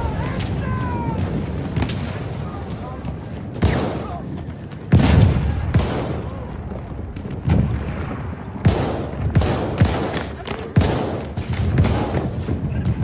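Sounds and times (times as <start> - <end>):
echoing rifle shots: 1.2 - 12.6.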